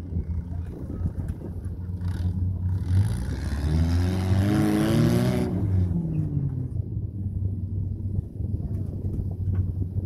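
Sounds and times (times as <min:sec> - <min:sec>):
buggy engine revving: 0:00.0 - 0:09.8.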